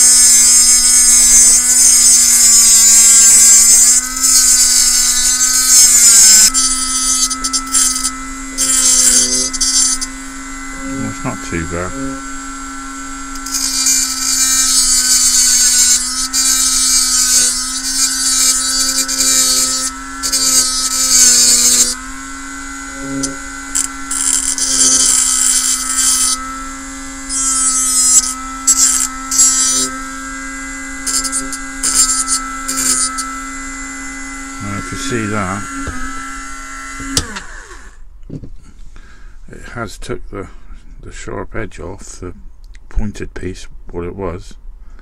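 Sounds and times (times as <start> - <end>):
high grinding hiss: 0.0 - 38.0
rotary tool running: 0.0 - 38.0.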